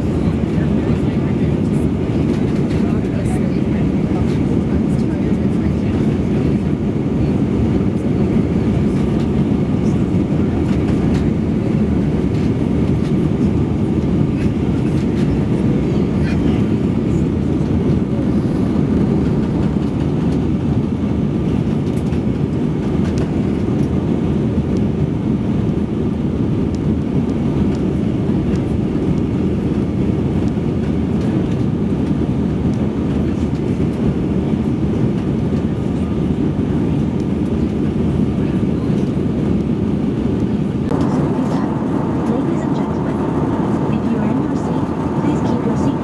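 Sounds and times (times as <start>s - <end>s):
airliner cabin engine rumble: 0.0s - 46.0s.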